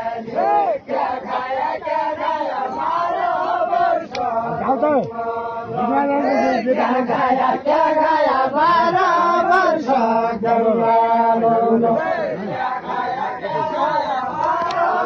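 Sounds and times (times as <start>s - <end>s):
crowd chanting a song: 0.0s - 15.0s.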